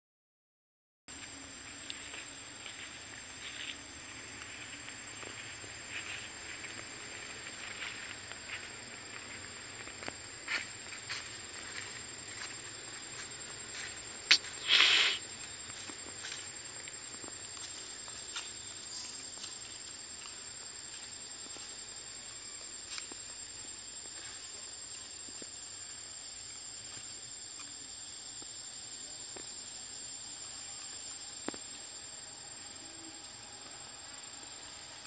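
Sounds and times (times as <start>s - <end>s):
constant hiss: 1.1s - 35.0s
high-pitched insect drone: 1.1s - 35.0s.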